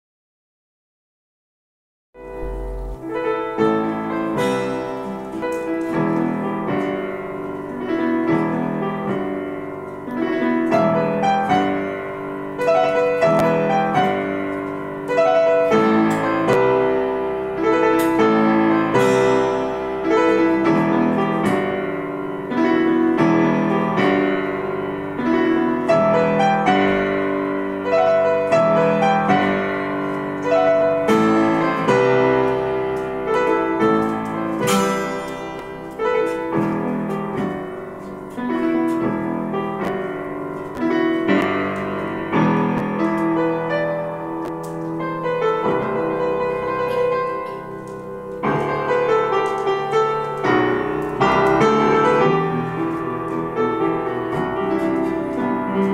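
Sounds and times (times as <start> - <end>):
acoustic guitar: 2.2 - 55.9
upright piano playing: 2.2 - 55.9.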